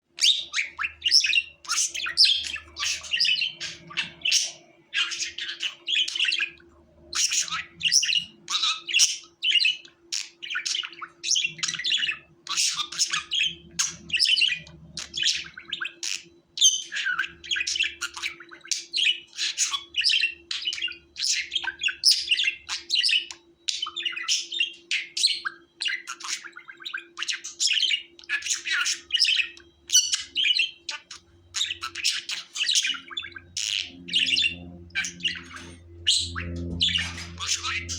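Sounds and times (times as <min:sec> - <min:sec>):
budgerigars chirping and warbling: 0:00.1 - 0:37.9.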